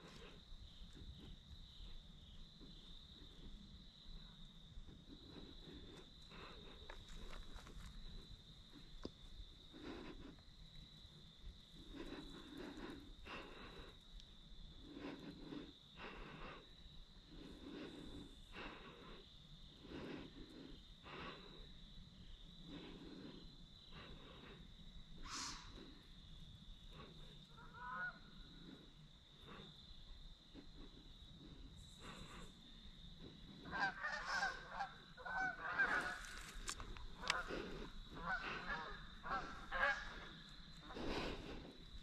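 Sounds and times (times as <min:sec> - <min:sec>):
person breathing close: 0:00.0 - 0:01.3, 0:04.9 - 0:27.8, 0:28.4 - 0:42.0
high insect drone: 0:00.0 - 0:42.0.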